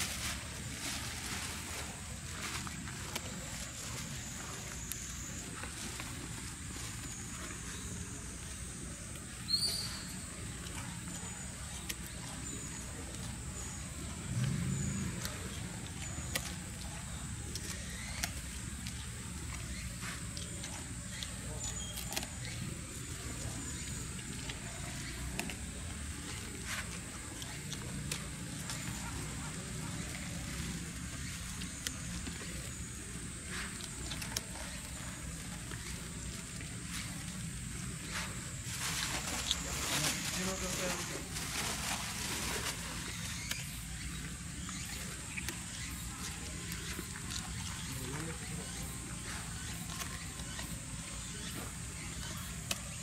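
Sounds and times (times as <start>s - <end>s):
deer nibbling with clicks and rustles: 0.0s - 53.0s.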